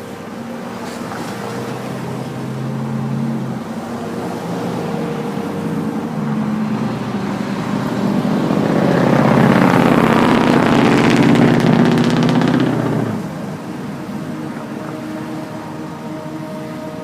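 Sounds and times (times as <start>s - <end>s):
vehicle engine running: 0.8s - 16.6s.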